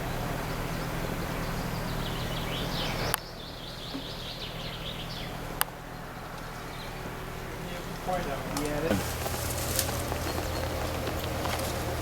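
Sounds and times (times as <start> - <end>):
small birds twittering: 0.0 - 12.0
steady background noise: 0.0 - 12.0.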